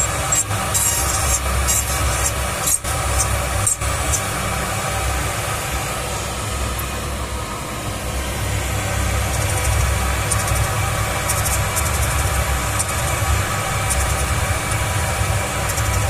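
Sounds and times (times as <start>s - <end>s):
milling machine humming: 0.0s - 16.0s.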